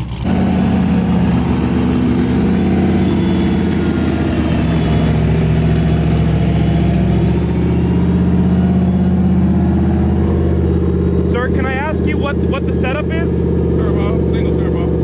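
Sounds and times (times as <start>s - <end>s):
car engine idling loudly: 0.0s - 15.0s.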